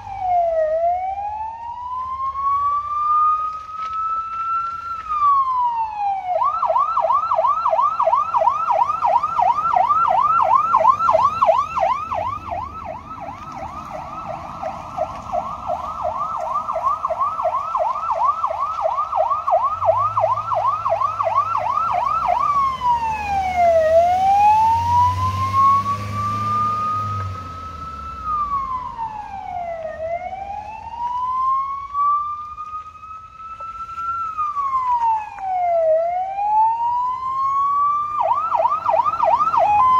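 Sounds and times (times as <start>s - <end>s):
electronic siren yelp and wail: 0.0s - 39.9s.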